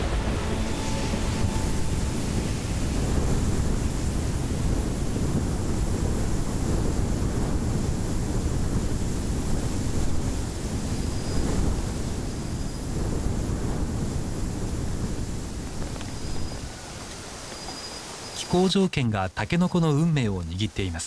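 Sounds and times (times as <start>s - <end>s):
strong wind through bamboo: 0.0s - 21.0s.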